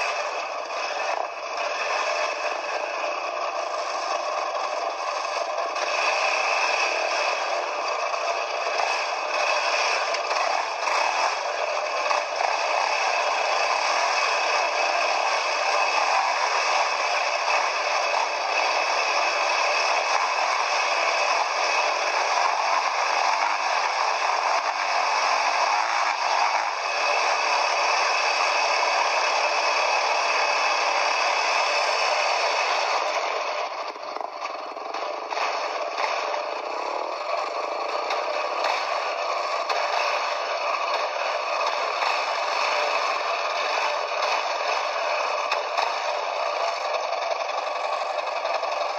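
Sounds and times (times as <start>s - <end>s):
quad bike clattering and rattling: 0.0s - 48.9s.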